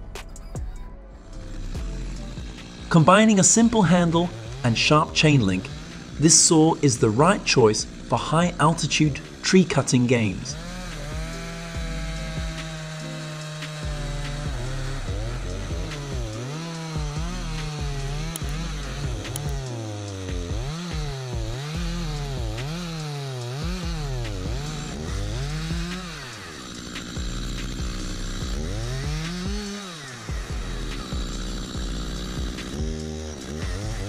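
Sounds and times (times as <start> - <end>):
chainsaw cutting tree trunk: 1.2 - 34.0.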